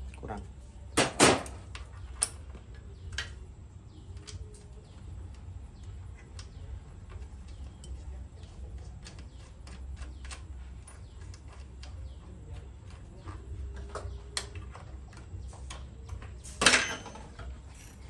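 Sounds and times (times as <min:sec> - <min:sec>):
metal parts clicking and tapping: 0:01.4 - 0:08.1, 0:09.0 - 0:18.0.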